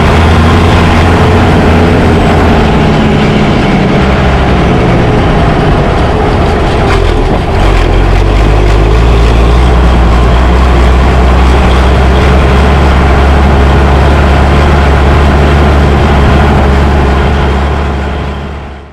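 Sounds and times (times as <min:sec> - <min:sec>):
tractor diesel engine under load: 0:00.0 - 0:18.9.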